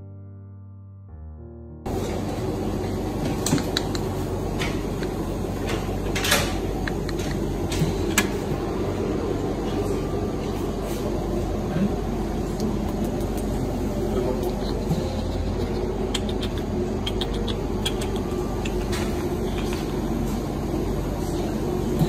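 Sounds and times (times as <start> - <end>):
ventilation humming: 1.8 - 22.0.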